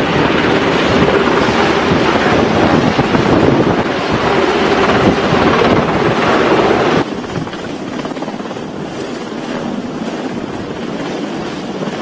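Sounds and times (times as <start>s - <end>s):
sea rushing: 0.0s - 12.0s
wind buffeting microphone: 0.0s - 12.0s.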